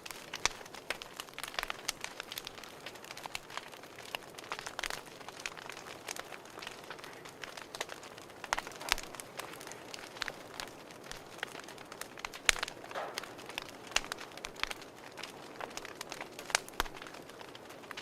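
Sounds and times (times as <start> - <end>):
soft fire hiss: 0.0 - 18.0
wood fire popping and snapping: 0.0 - 18.0.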